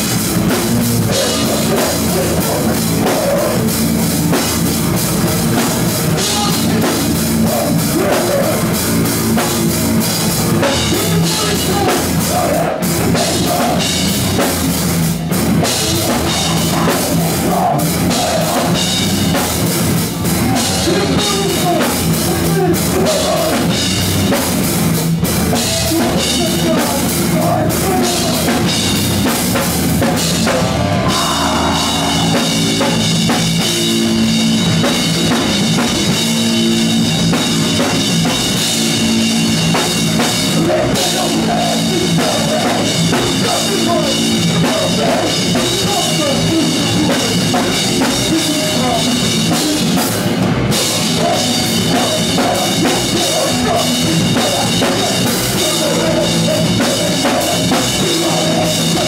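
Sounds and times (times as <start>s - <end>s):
drum kit: 0.0s - 59.0s
live rock band playing: 0.0s - 59.0s.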